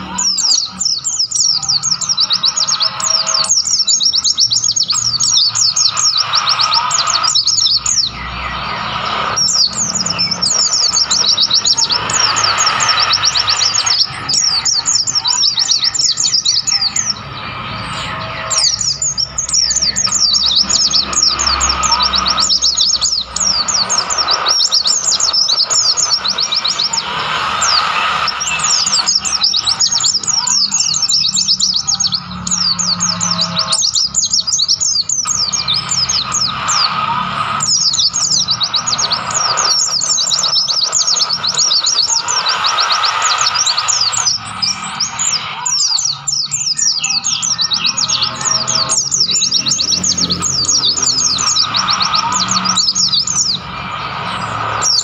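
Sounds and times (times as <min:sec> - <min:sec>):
white-eyes singing high chirps: 0:00.0 - 0:55.0.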